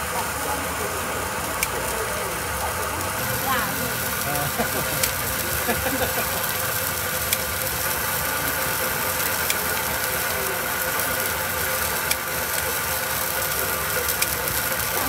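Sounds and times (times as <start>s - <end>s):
machine motor running: 0.0s - 15.0s.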